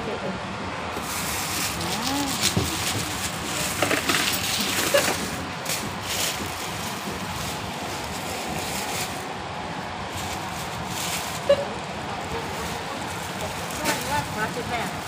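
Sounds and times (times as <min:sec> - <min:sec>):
distant voices: 0:00.0 - 0:15.0
groceries rustling and knocking: 0:00.9 - 0:15.0.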